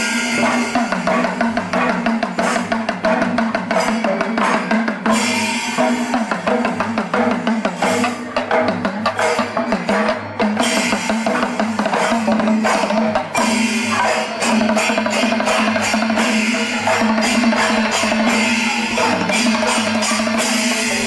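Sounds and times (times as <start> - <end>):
fast dense drumming: 0.0 - 21.0.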